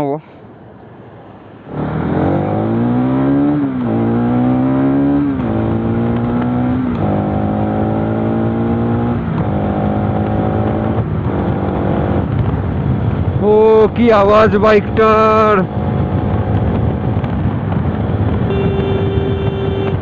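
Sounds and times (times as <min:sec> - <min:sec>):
motorcycle engine accelerating: 0:01.7 - 0:13.5, 0:15.2 - 0:20.0.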